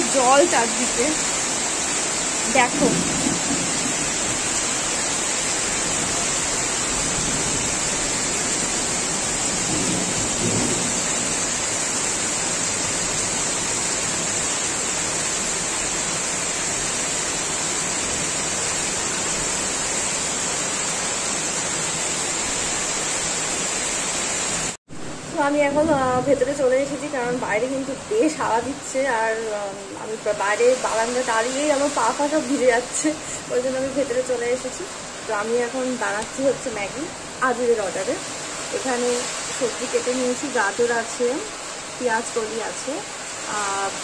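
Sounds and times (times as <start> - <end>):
torrential rain: 0.0 - 44.0.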